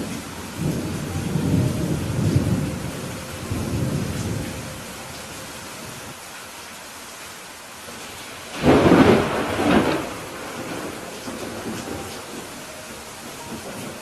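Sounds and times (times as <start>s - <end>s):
thunder rumbling: 0.0s - 6.2s, 8.1s - 14.0s
steady rain: 0.0s - 14.0s.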